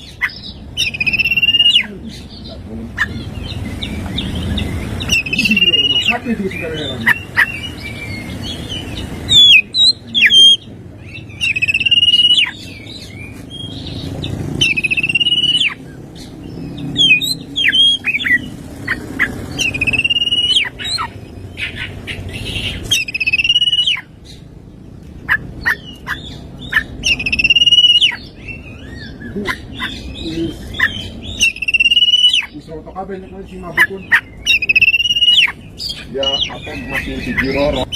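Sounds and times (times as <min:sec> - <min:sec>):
bird singing buzzy trills: 0:00.0 - 0:37.9.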